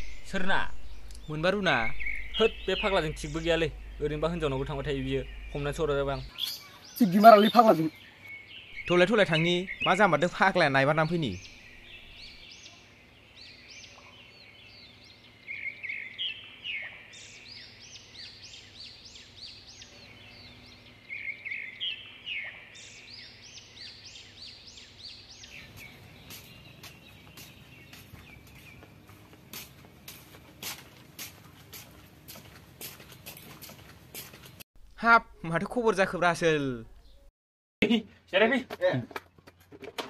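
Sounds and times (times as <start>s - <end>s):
birds chirping: 0.0s - 34.6s, 35.5s - 37.3s.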